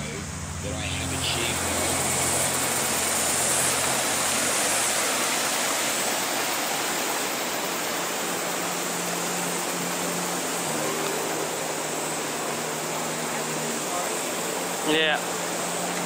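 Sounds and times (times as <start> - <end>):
river water rushing over boulders: 0.0 - 16.0.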